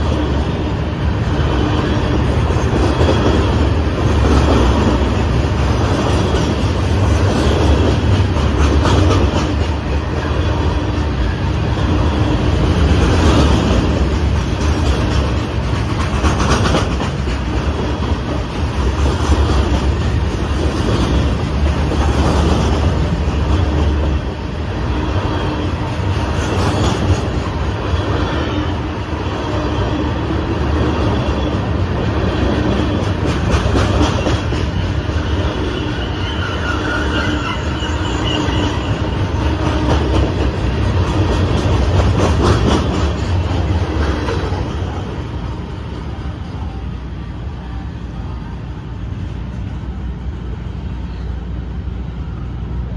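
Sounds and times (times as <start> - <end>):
freight train wheels rumbling: 0.0 - 52.9.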